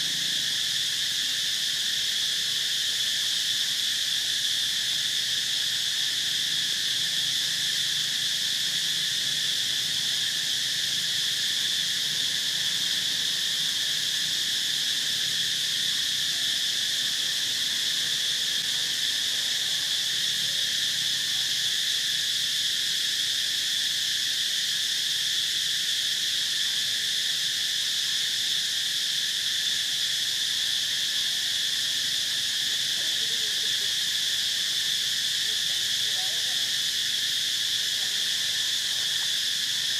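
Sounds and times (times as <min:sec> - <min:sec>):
insects chorus drone: 0:00.0 - 0:39.9.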